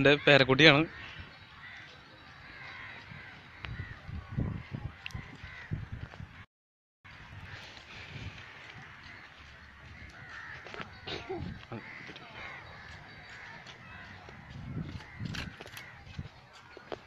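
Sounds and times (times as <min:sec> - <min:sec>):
crows cawing: 0:00.0 - 0:06.5, 0:07.1 - 0:17.0.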